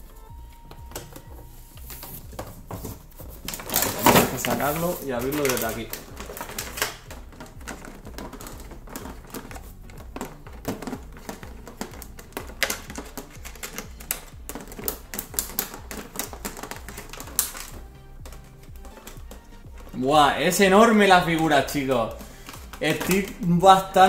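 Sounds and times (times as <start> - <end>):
background music: 0.0 - 24.0
plastic packaging crinkling: 0.7 - 24.0.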